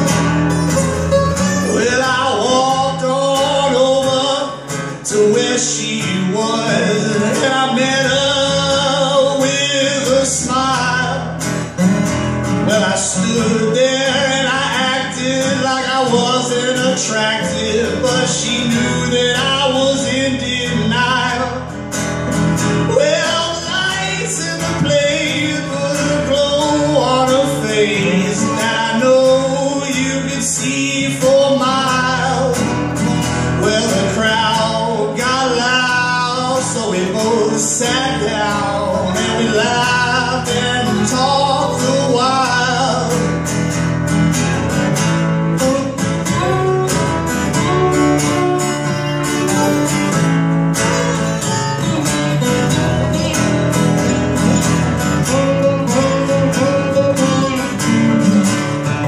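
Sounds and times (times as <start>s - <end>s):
man singing: 0.0s - 11.8s, 12.5s - 21.8s, 22.6s - 43.6s, 45.5s - 50.1s, 50.8s - 59.0s
acoustic guitars strumming: 0.0s - 59.0s.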